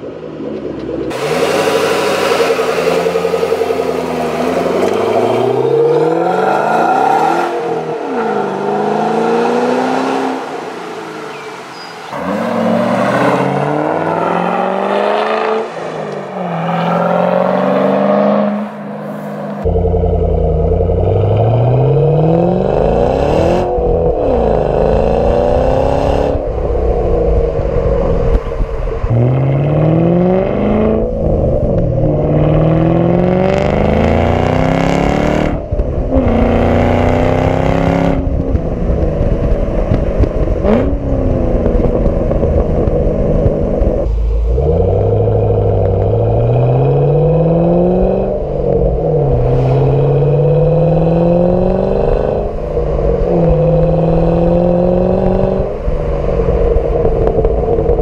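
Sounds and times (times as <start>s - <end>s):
car engine revving: 0.0s - 58.0s
wind and road noise: 0.0s - 58.0s.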